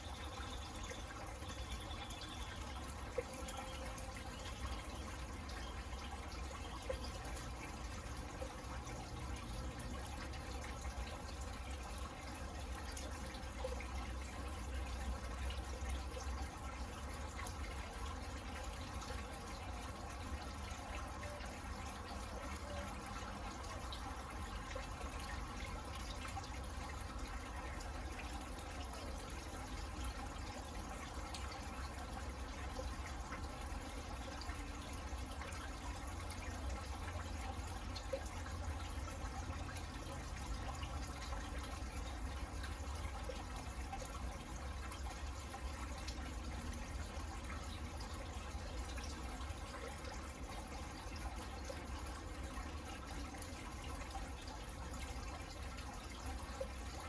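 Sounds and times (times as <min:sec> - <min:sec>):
rain patter and drips: 0:00.0 - 0:57.0.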